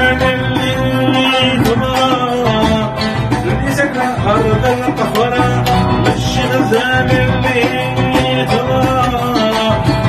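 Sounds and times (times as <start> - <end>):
man singing: 0.0 - 10.0
oud: 0.0 - 10.0.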